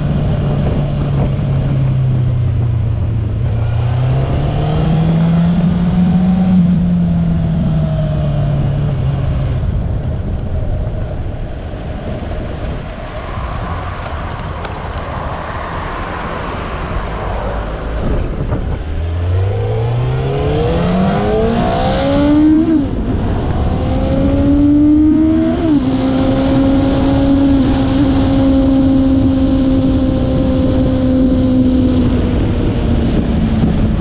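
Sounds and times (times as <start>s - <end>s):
motorcycle engine accelerating: 0.0s - 11.2s, 16.8s - 34.0s
wind noise on microphone: 0.0s - 34.0s.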